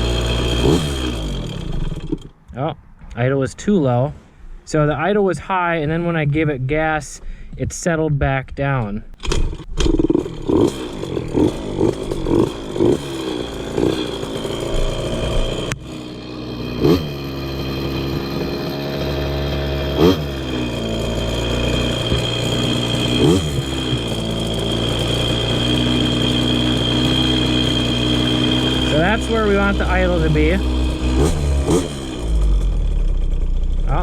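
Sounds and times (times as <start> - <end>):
two-stroke engine revving and idling: 0.0 - 2.5, 9.2 - 34.0.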